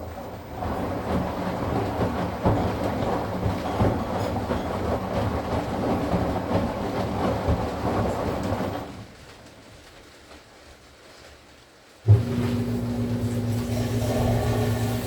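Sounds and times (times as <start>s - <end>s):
washing machine spinning with rattling: 0.0s - 11.2s, 11.8s - 15.0s.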